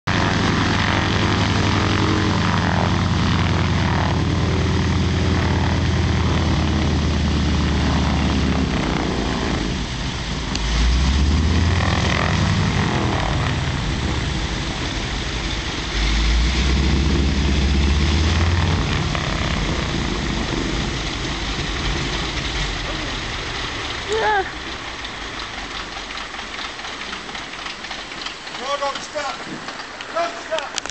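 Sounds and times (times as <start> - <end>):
propeller plane engine droning: 0.0 - 30.9.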